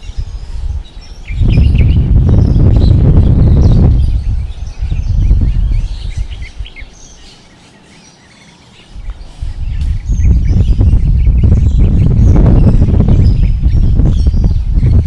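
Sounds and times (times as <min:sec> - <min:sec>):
birds chirping: 0:00.0 - 0:15.0
wind gusting against microphone: 0:00.0 - 0:15.0.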